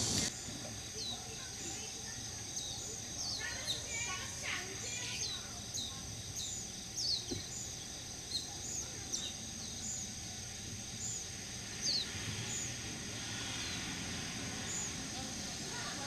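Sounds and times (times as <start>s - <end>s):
faint high insect drone: 0.0s - 16.0s
small birds chirping: 0.0s - 16.0s.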